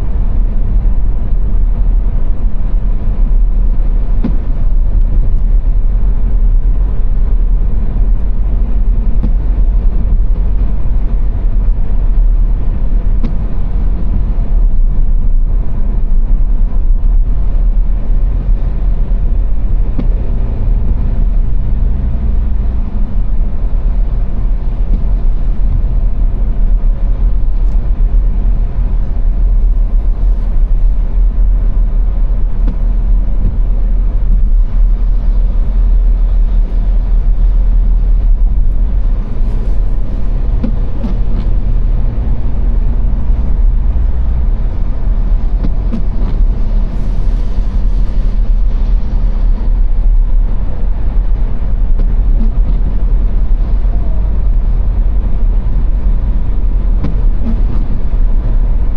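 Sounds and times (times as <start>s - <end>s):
car driving at speed: 0.0s - 58.9s.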